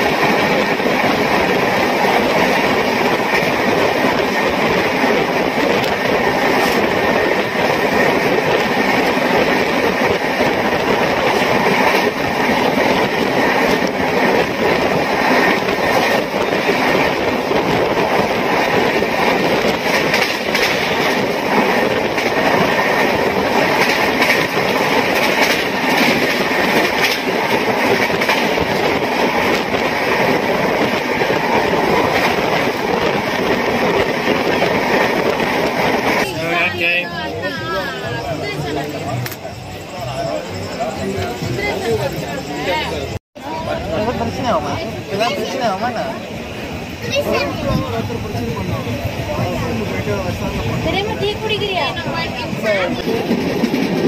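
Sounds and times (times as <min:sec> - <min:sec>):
wheels clattering over rail joints: 0:00.0 - 0:36.8, 0:43.8 - 0:54.0
train wheel and track noise: 0:00.0 - 0:54.0.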